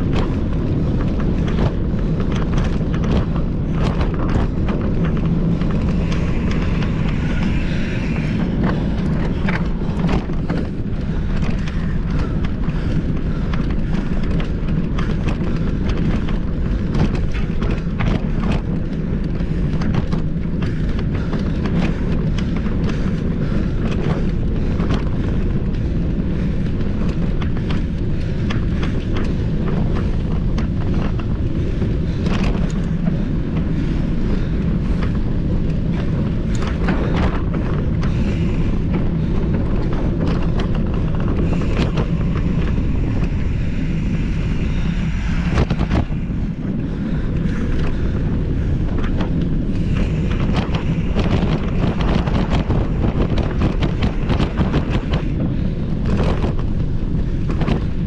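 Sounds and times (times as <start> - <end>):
bike clattering and rattling: 0.0 - 58.0
bike tyre noise: 0.0 - 58.0
wind buffeting microphone: 0.0 - 58.0.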